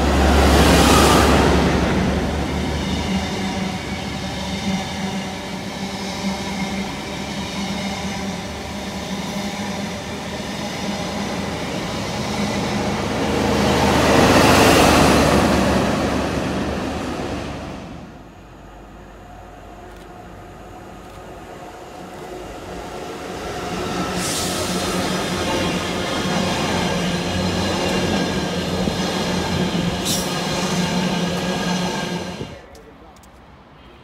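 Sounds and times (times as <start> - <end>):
train coaches rumbling over rails: 0.0 - 34.0.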